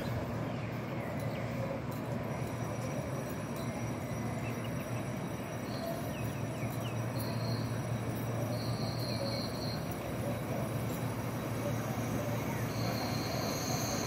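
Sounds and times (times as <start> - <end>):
electric train humming: 0.0 - 14.0
thin high tone: 2.2 - 14.0.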